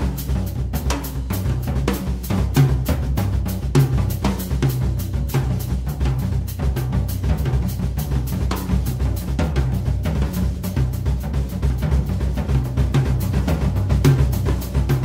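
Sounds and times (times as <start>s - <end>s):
booming bass drum: 0.0s - 15.0s.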